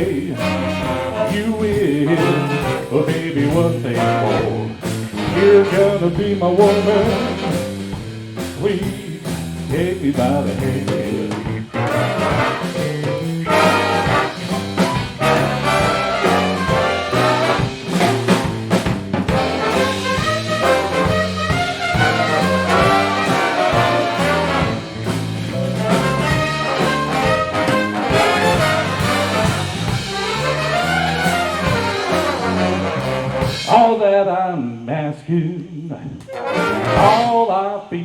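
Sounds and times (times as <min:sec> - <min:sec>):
trumpets and trombones: 0:00.0 - 0:08.0, 0:11.7 - 0:33.8, 0:36.3 - 0:37.5
stepping bass line: 0:00.0 - 0:33.7
big band playing swing: 0:00.0 - 0:34.2, 0:36.2 - 0:37.5.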